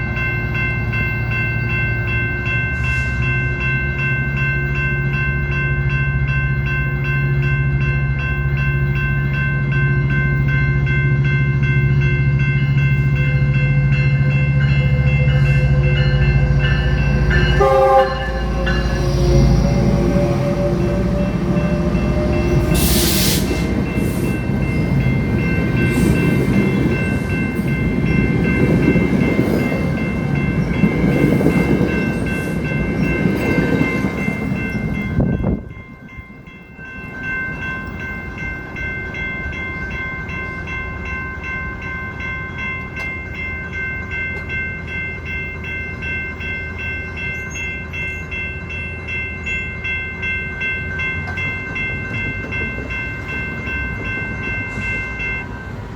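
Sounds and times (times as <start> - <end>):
crossing bells ringing: 0.0 - 55.9
train rumble and wheel noise: 0.0 - 55.9.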